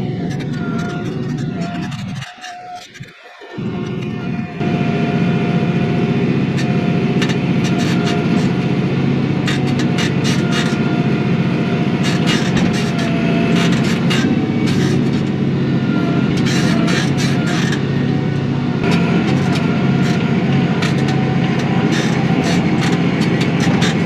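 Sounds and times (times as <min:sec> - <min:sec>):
tractor diesel engine running: 0:00.0 - 0:24.0
loader bucket rattles and clanks: 0:03.6 - 0:24.0.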